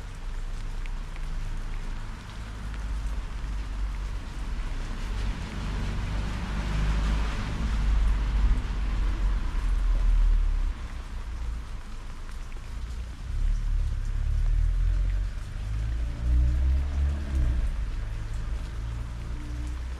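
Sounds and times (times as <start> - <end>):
rain falling steadily: 0.0 - 19.9.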